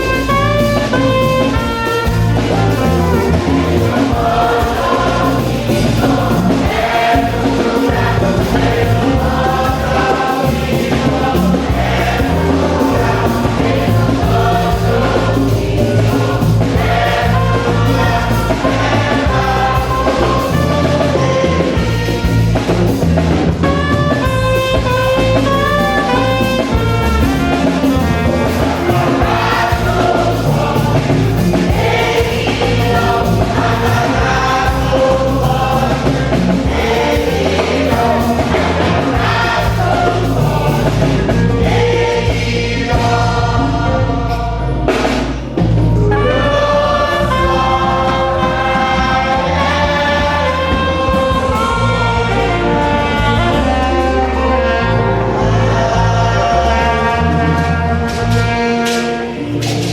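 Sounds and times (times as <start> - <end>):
drum beats: 0.0 - 54.1, 57.5 - 59.9
bass line: 0.0 - 59.9
choir and congregation singing: 0.0 - 59.9.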